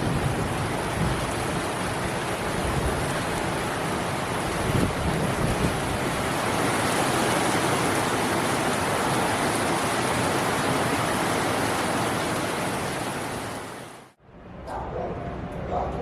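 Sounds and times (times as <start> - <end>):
heavy rain: 0.0 - 14.2.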